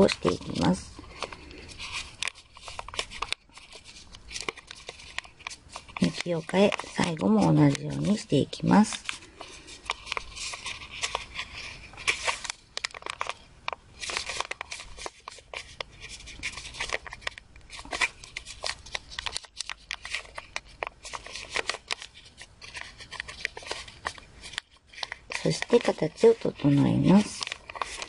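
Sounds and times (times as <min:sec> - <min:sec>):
paper rustling and crinkling: 0:00.0 - 0:28.0.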